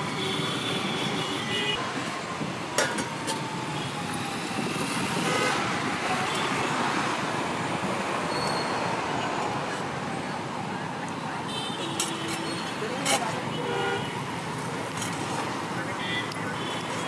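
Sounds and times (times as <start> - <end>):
busy road traffic passing: 0.0 - 17.0.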